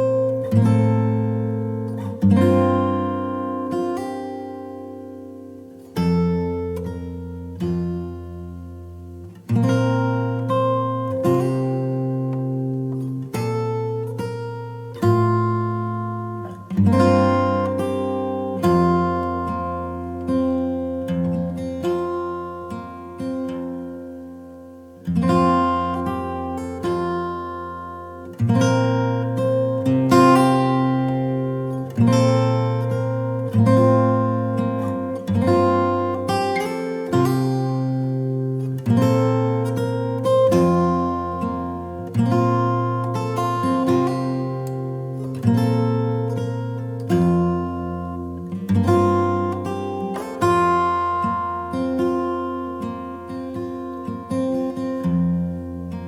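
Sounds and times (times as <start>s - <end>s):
acoustic guitar chords strummed: 0.0s - 56.0s.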